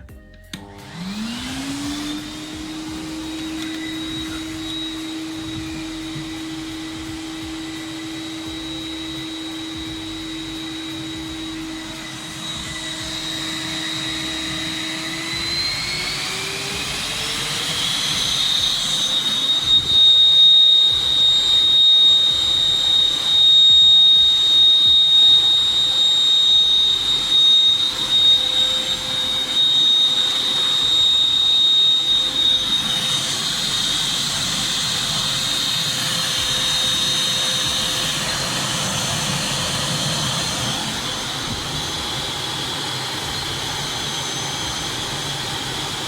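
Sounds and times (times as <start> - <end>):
vacuum motor whine: 0.0 - 46.0.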